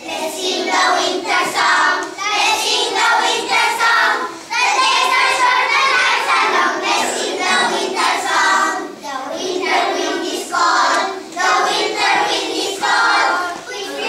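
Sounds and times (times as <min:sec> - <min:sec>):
young children singing: 0:00.0 - 0:14.0.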